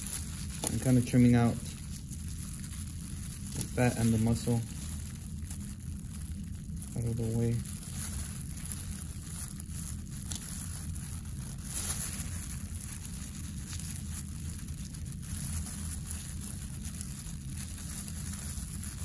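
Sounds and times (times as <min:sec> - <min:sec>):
plastic gloves crinkling: 0:00.0 - 0:19.0
steady low hum: 0:00.0 - 0:19.0.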